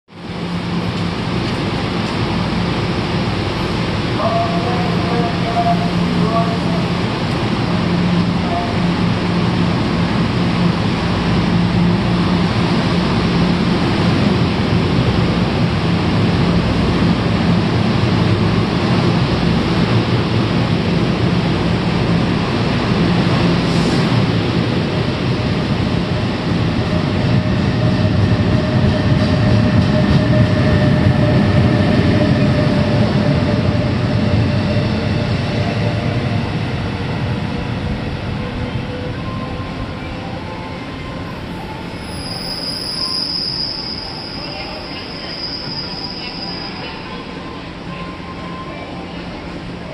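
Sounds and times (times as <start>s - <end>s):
high train whine: 0.1s - 49.9s
train wheels rumbling on rail: 0.1s - 49.9s.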